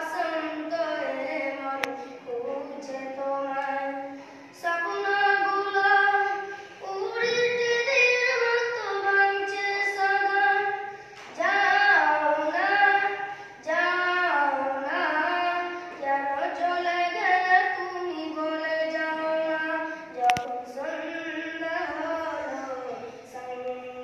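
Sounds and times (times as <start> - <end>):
boy singing: 0.0 - 24.0.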